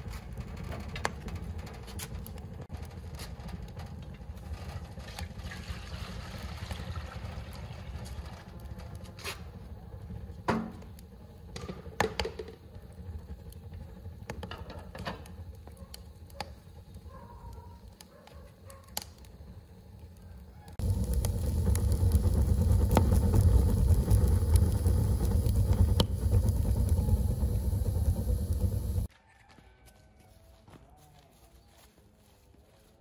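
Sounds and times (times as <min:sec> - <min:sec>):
low steady rumble: 0:00.0 - 0:18.0, 0:19.3 - 0:29.1
wood fire crackling and popping: 0:00.0 - 0:29.1.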